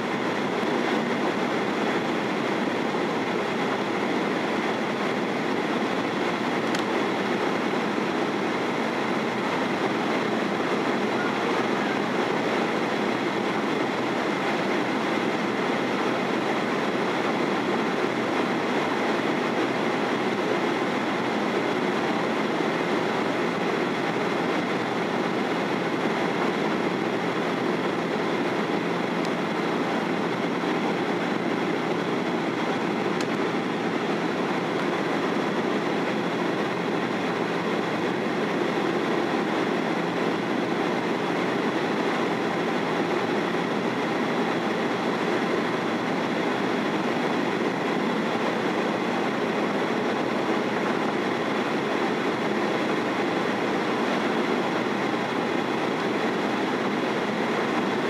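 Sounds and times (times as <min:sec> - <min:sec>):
airliner engine hum: 0:00.0 - 0:58.0
faint steady whine: 0:00.0 - 0:58.0.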